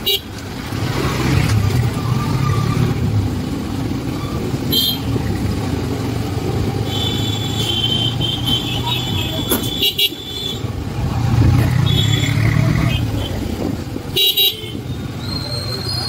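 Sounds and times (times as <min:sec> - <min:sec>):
motorcycle engine rumbling: 0:00.0 - 0:16.0
road noise: 0:00.0 - 0:16.0.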